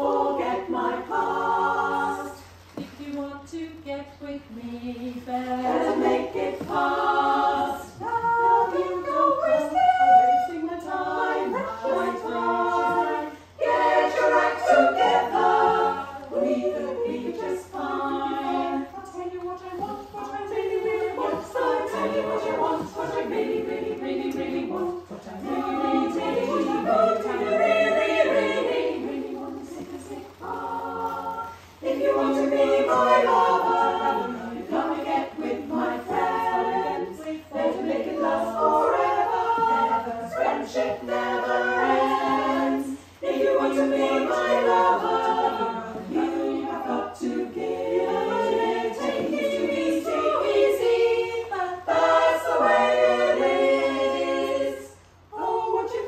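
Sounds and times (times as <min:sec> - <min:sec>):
women's choir singing a cappella: 0:00.0 - 0:56.0.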